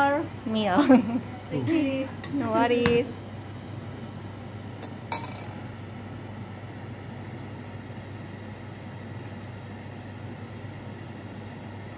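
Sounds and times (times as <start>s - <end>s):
fan humming: 0.0s - 11.9s.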